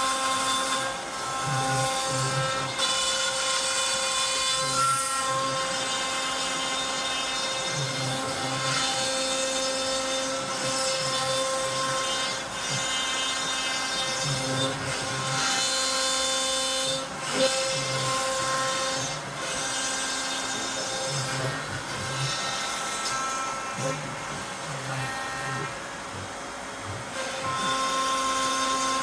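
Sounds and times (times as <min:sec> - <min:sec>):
router spindle running: 0:00.0 - 0:29.0.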